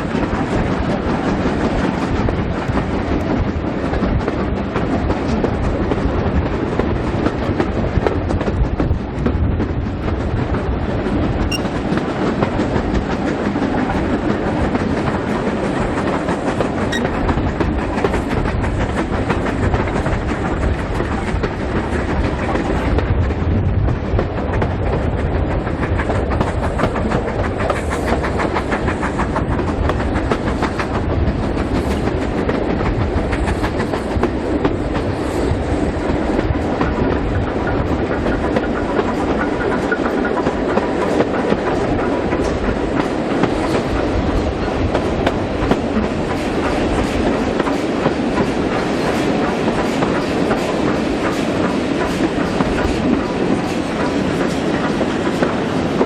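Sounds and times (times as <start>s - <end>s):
steam train rumble: 0.0s - 56.0s.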